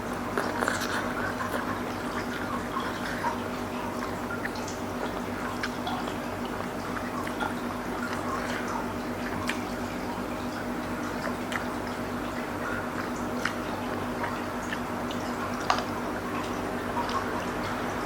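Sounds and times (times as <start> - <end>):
wet chewing: 0.0 - 17.8.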